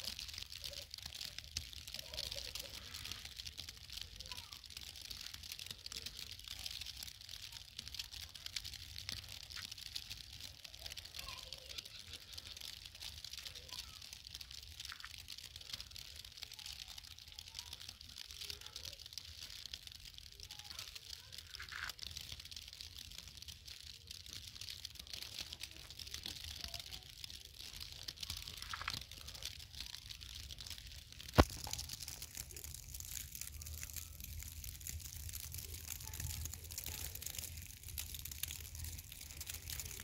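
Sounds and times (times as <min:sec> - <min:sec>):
wet snow pattering: 0:00.0 - 0:40.0.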